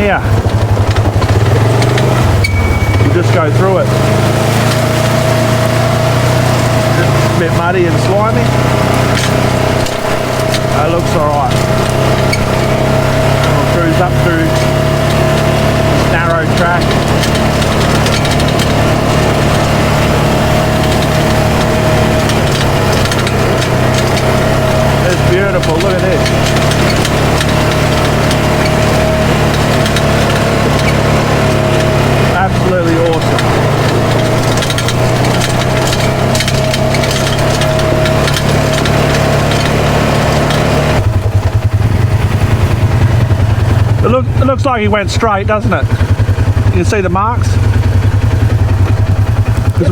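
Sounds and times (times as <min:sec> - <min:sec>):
twigs scraping and snapping: 0:00.0 - 0:43.6
brush crackling against vehicle: 0:00.0 - 0:49.9
vehicle engine running: 0:00.0 - 0:49.9.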